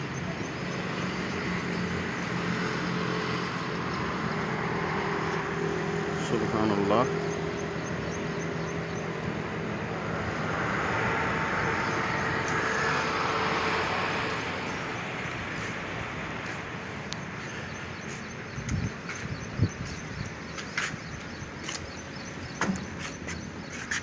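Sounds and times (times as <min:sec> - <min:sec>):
road traffic noise: 0:00.0 - 0:24.0
vehicle passing: 0:00.7 - 0:21.0.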